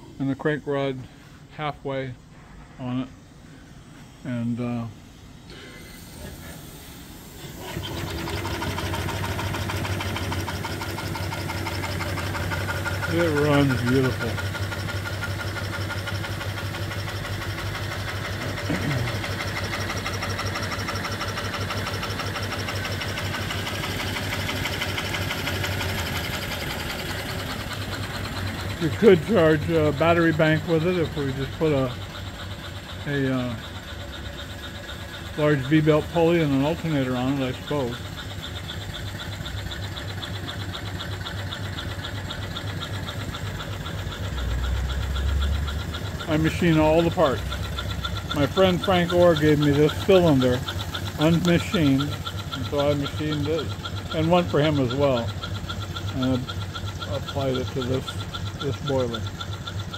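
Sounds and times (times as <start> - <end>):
steam engine running: 0.0 - 59.9.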